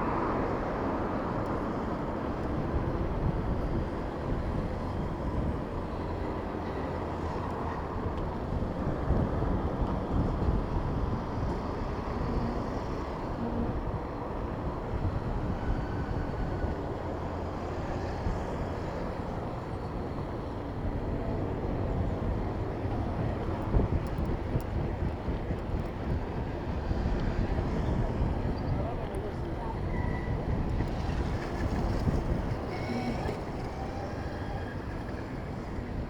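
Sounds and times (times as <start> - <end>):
city road traffic: 0.0 - 36.0
wind rumbling on microphone: 0.0 - 36.0.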